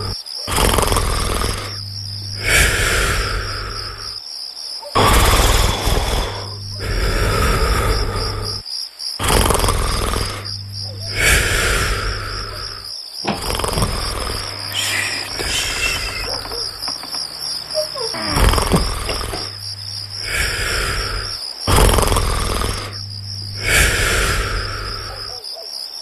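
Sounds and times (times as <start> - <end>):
cartoon snoring: 0.0 - 4.2, 4.9 - 8.6, 9.2 - 25.4
crickets chirping: 0.0 - 26.0.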